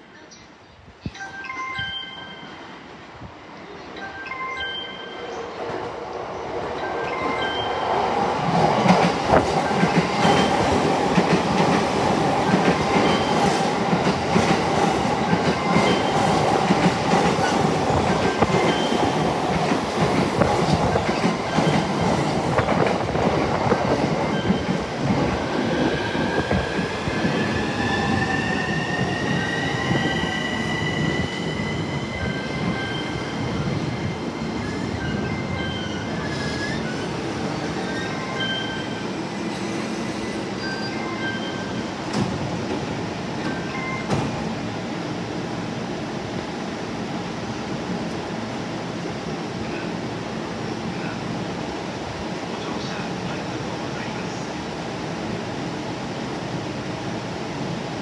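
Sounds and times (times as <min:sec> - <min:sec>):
electric train passing: 0:01.2 - 0:53.0.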